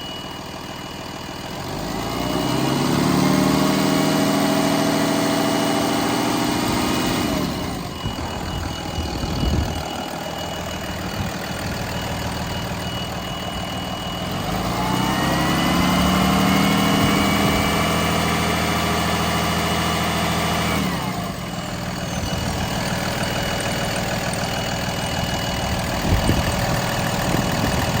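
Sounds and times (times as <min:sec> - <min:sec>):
diesel engine idling and revving: 0:00.0 - 0:28.0.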